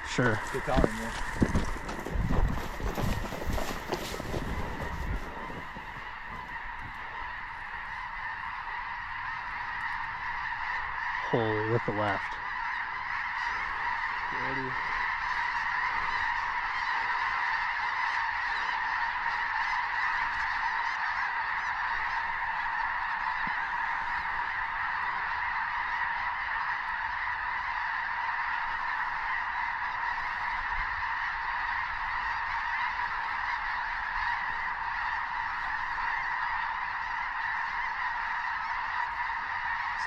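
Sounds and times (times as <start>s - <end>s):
flock of geese honking: 0.0s - 40.0s.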